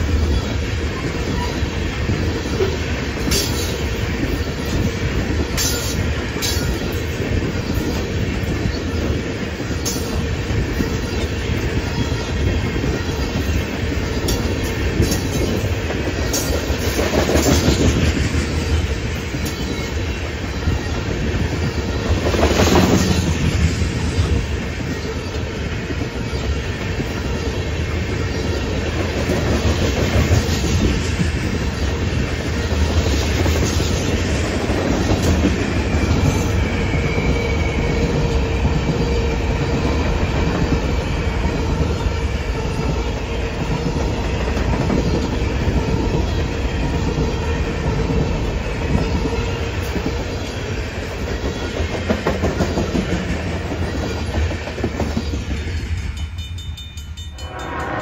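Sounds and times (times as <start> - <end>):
freight train clattering past: 0.0 - 58.0.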